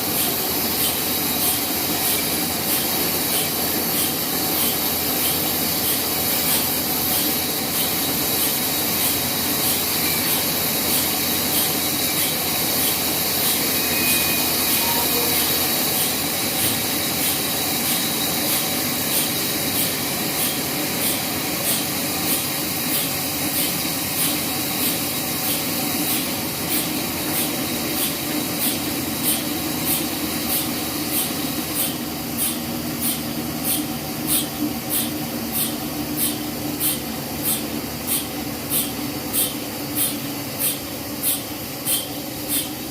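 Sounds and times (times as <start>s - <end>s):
band saw cutting a log: 0.0s - 42.9s.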